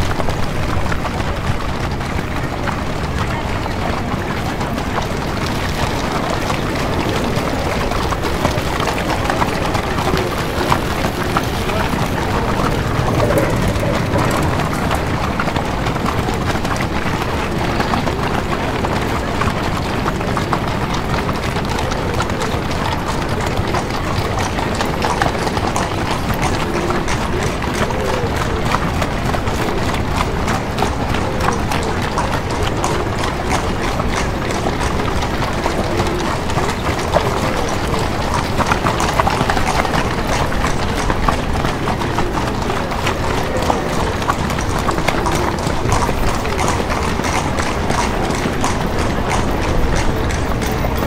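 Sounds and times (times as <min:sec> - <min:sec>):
horse hooves clip-clopping on street: 0:00.0 - 0:51.0
murmur of street voices: 0:00.0 - 0:51.0.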